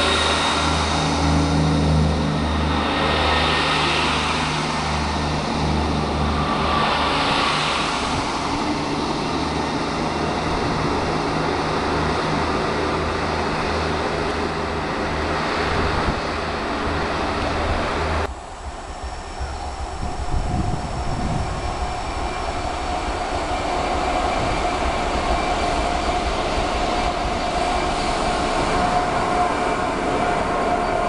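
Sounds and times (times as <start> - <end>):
diesel train engines droning: 0.0 - 31.0
steady rushing noise: 0.0 - 31.0.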